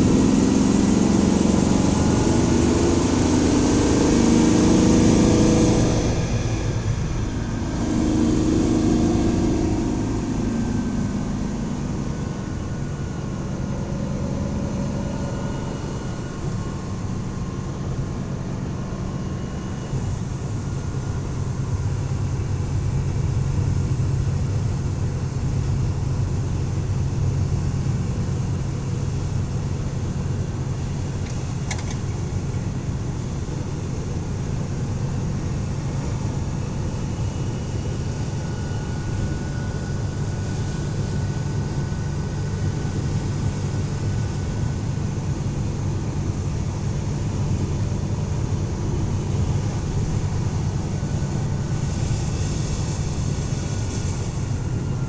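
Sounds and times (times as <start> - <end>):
road noise: 0.0 - 55.0
van engine droning: 0.0 - 55.0.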